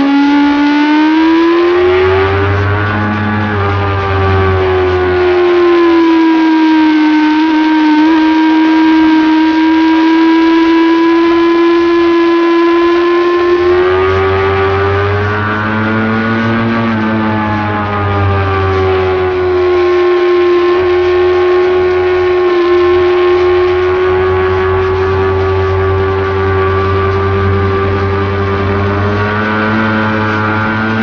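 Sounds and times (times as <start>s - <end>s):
motorcycle engine at high revs: 0.0s - 31.0s.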